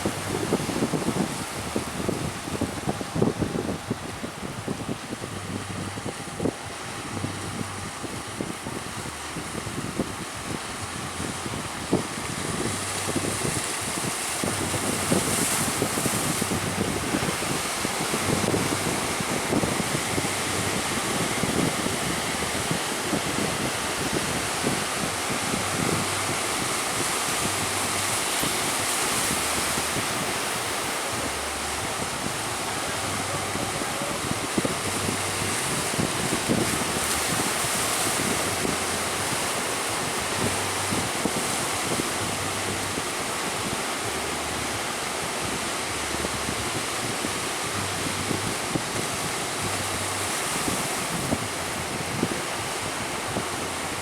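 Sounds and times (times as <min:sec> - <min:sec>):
sea waves rushing: 0:00.0 - 0:54.0
wind buffeting microphone: 0:00.0 - 0:54.0.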